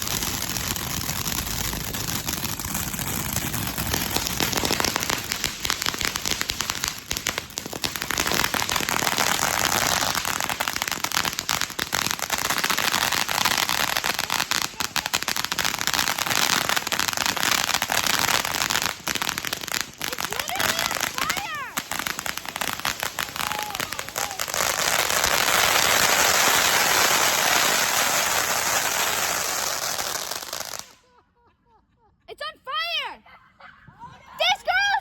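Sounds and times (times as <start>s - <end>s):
firework crackling pops: 0.0s - 31.0s.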